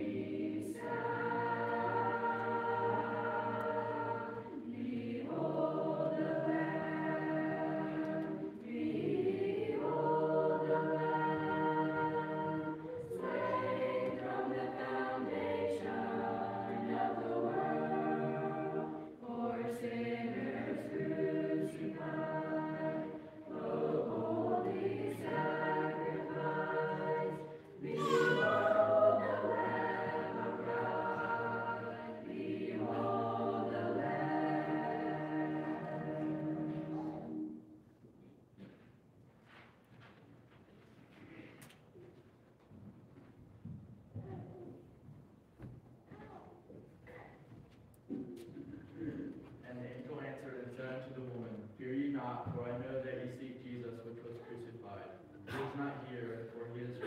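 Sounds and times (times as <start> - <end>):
young choir singing a cappella: 0.0 - 37.8, 48.2 - 57.0.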